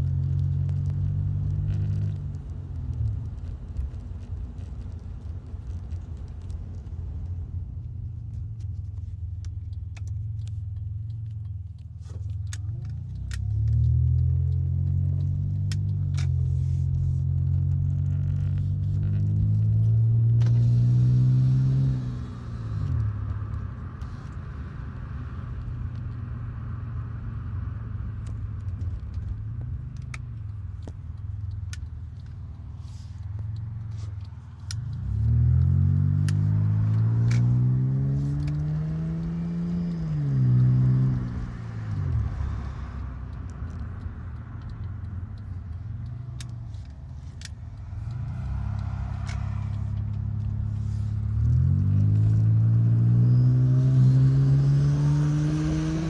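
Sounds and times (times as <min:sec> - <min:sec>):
car engine from inside cabin: 0:00.0 - 0:56.0.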